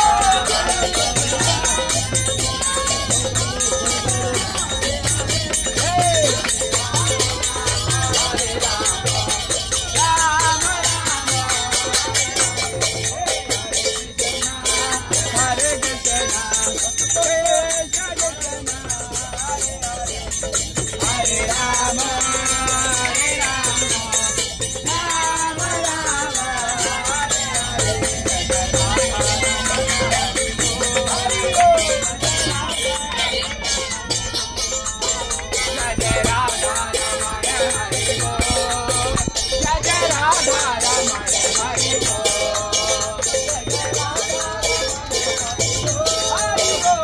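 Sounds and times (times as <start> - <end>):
group singing devotional song: 0.0 - 47.0
hand cymbals struck: 0.0 - 47.0.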